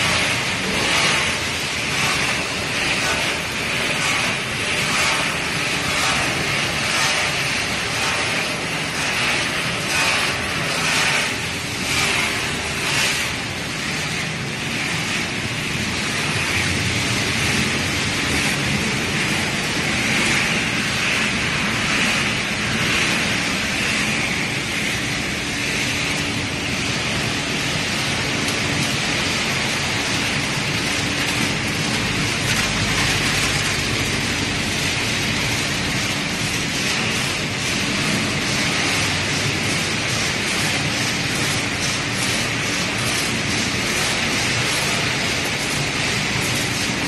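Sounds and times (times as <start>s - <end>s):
machinery running: 0.0s - 47.0s.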